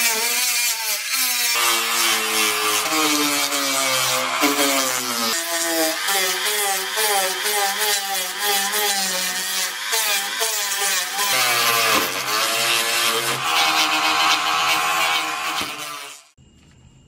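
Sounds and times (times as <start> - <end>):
wire brush scratching metal: 0.0 - 16.3
rotary tool motor whine: 0.0 - 16.4.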